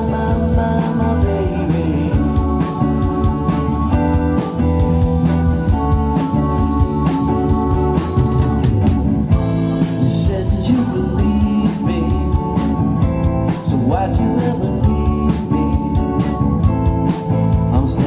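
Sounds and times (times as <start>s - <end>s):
bass guitar: 0.0s - 18.0s
drum kit beat: 0.0s - 18.0s
electric guitar: 0.0s - 18.0s
electric keyboard chords: 0.0s - 18.0s.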